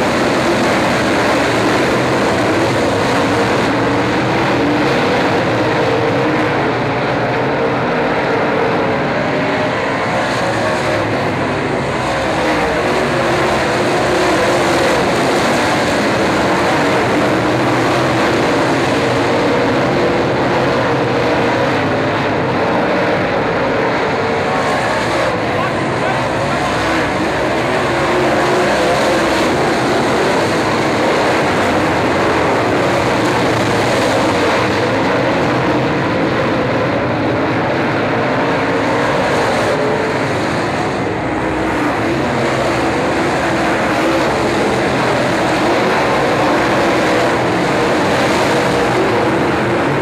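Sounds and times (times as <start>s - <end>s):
race car engines droning: 0.0s - 50.0s.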